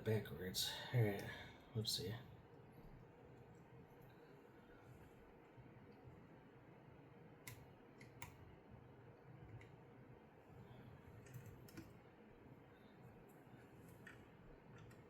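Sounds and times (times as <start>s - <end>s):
low room hiss: 0.0s - 15.0s.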